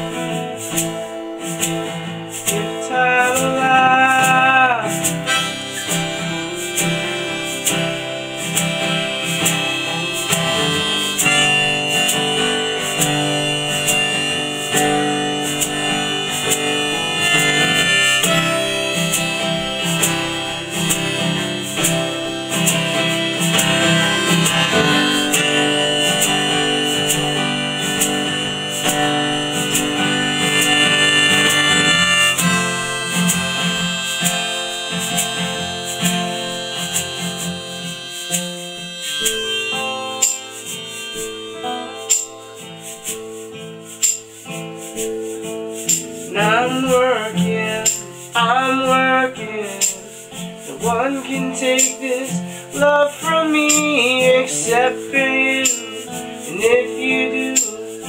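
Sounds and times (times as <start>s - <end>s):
harmonica long held notes: 0.0s - 58.0s
strummed acoustic guitar: 0.0s - 58.0s.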